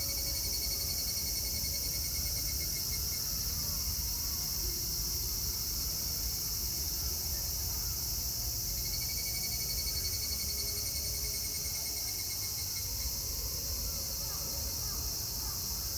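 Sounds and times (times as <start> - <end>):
cicadas chorus: 0.0 - 15.9
rapid pulsing insect call: 0.0 - 15.9.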